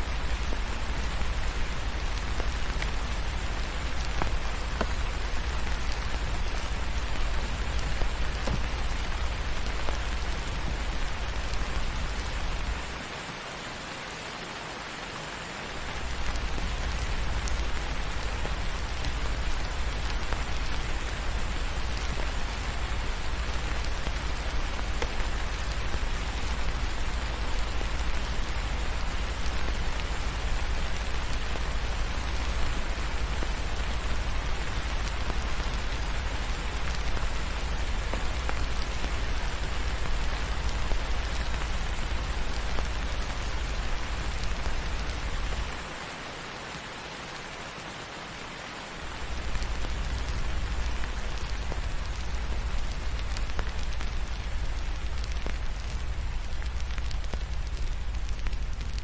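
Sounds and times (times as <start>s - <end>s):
raindrop ticks: 0.0s - 47.5s, 48.7s - 59.0s
steady rain hiss: 0.0s - 59.0s.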